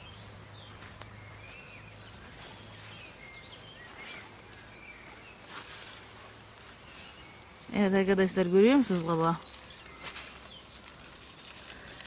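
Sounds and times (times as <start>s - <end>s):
leaves rustling against camera: 0.0s - 12.0s
small birds chirping: 0.0s - 12.0s.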